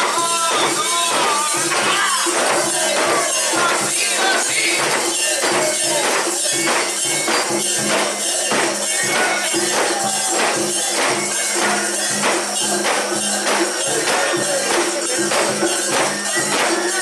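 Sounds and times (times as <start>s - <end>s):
metallic jingling and clanking: 0.0s - 17.0s.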